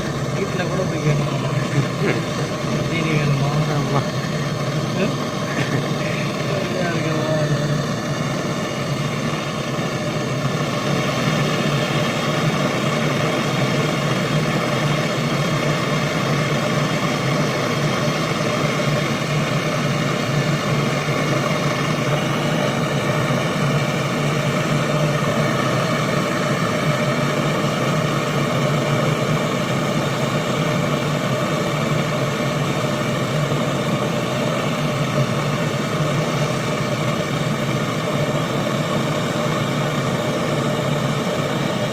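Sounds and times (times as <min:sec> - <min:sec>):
small electric motor humming: 0:00.0 - 0:41.9.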